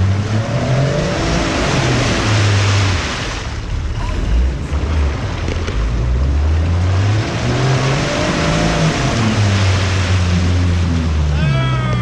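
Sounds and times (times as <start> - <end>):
loud steady rushing noise: 0.0 - 12.0
truck engine revving: 0.0 - 12.0.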